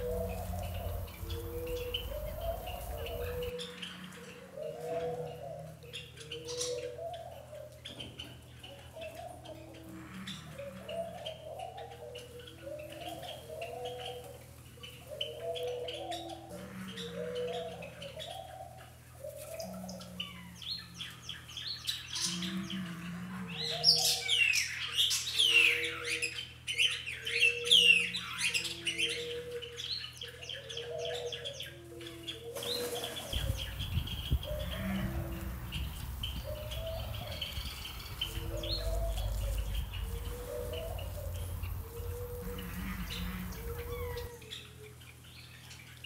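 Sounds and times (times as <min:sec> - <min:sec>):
small birds chirping: 0:00.0 - 0:22.9, 0:23.6 - 0:46.0.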